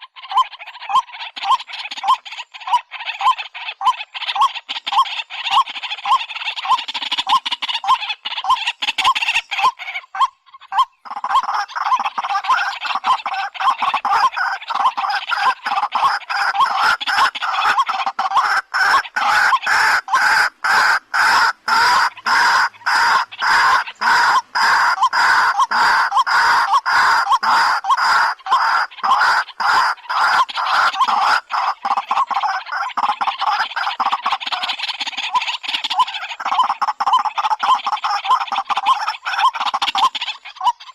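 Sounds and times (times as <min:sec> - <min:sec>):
waterhen calling: 0:00.0 - 0:40.9.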